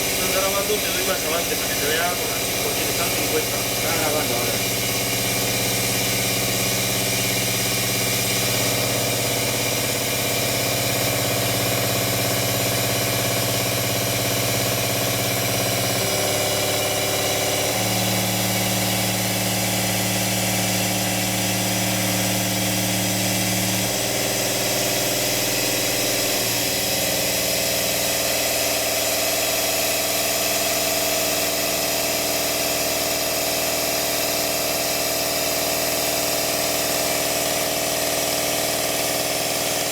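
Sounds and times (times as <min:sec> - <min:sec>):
milling machine humming: 0:00.0 - 0:39.9.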